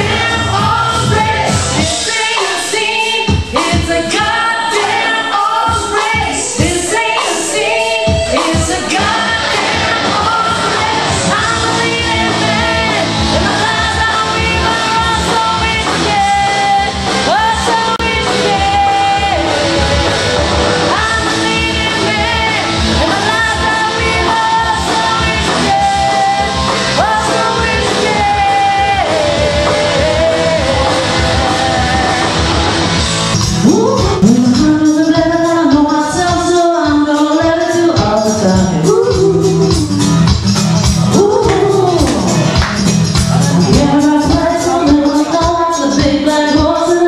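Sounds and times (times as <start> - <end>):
woman singing into a microphone: 0.0 - 32.8, 33.6 - 40.4, 41.1 - 42.7, 43.4 - 47.0
karaoke backing track: 0.0 - 47.0.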